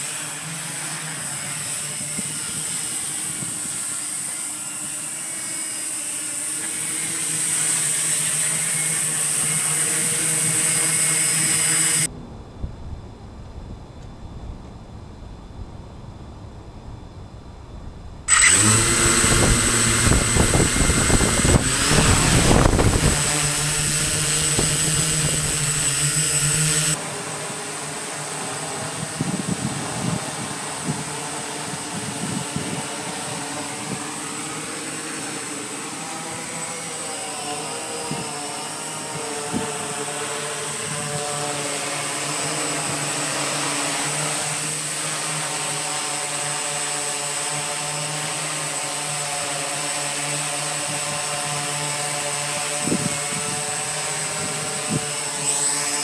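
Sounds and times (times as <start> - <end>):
drone propellers whirring: 0.0 - 12.1, 18.3 - 56.0.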